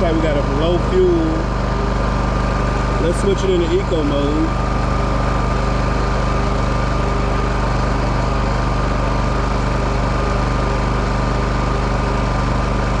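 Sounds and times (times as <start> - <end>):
generator engine humming: 0.0 - 13.0
steady thin whine: 0.0 - 13.0.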